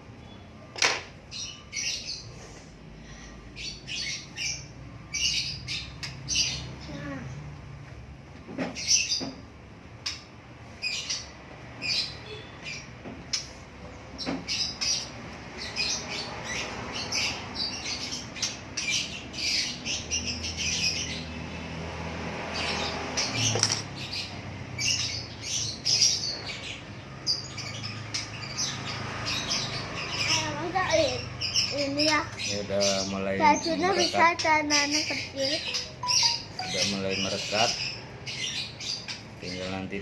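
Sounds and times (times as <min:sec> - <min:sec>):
small birds chirping and squawking: 0:00.0 - 0:40.0.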